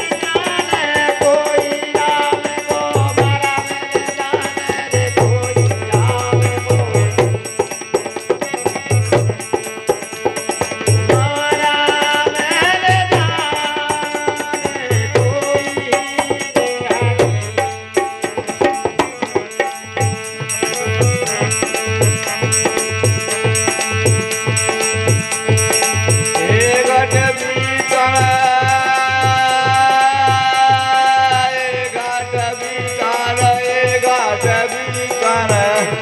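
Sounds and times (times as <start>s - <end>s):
hand drum beating rhythm: 0.0s - 36.0s
harmonium melody: 0.0s - 36.0s.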